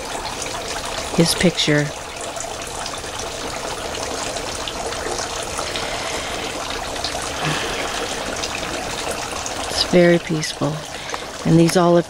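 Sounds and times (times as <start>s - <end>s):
fountain splashing and trickling: 0.0s - 12.0s.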